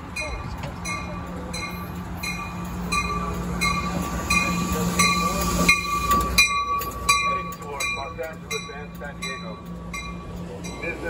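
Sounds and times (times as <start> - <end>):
train rumble and hum: 0.0 - 11.0
bell ringing: 0.2 - 11.0.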